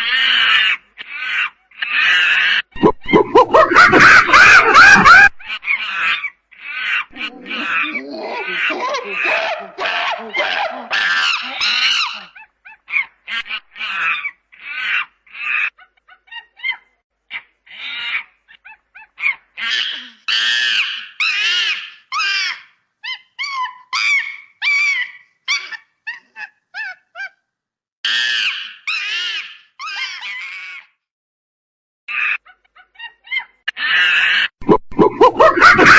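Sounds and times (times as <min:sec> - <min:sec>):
monkey screeching: 0:00.0 - 0:27.4, 0:28.0 - 0:31.0, 0:32.1 - 0:35.9.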